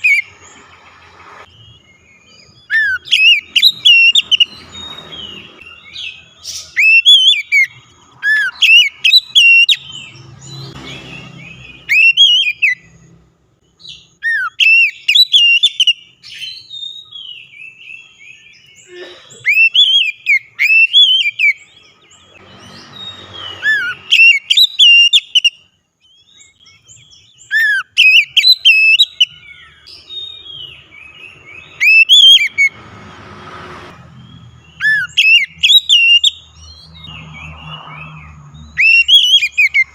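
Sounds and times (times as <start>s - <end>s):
bird singing whistled notes: 0.0s - 18.9s, 19.5s - 32.8s, 34.1s - 39.9s.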